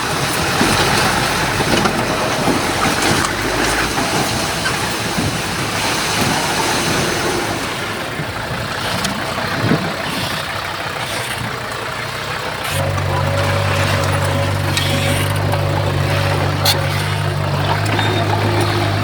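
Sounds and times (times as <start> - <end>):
heavy diesel engine running: 0.0 - 19.0
low engine drone: 0.1 - 19.0.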